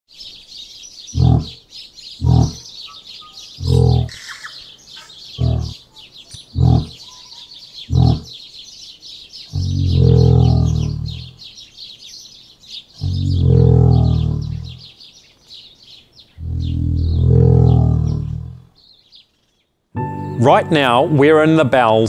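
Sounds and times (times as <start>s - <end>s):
forest birds chirping: 0.1s - 22.0s
deep booming bird calls: 0.6s - 15.2s, 15.8s - 19.3s.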